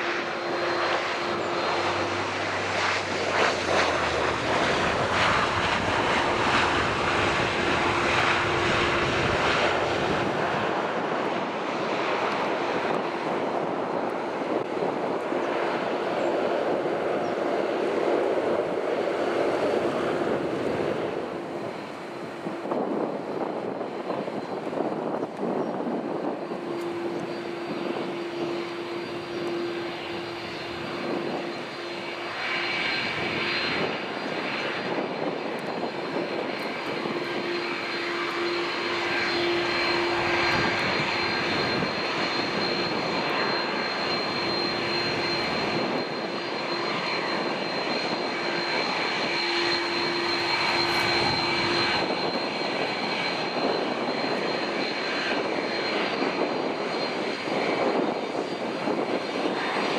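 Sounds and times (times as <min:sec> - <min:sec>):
jet engines whine and rumble: 0:00.0 - 0:59.9.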